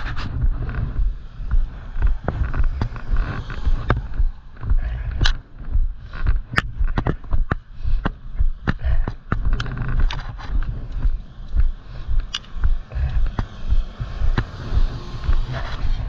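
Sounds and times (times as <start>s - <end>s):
sharp clicks and ticks: 0.0s - 16.0s.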